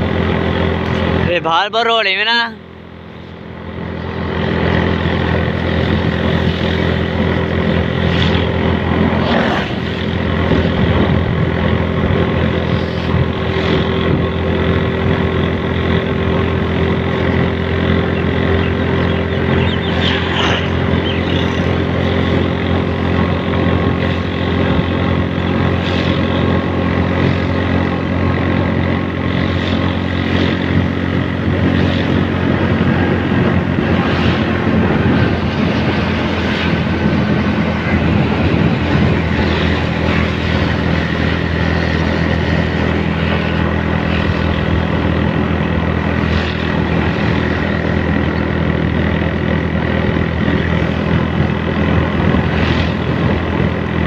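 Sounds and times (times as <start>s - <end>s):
road noise: 0.0s - 54.0s
vehicle engine hum: 0.0s - 54.0s.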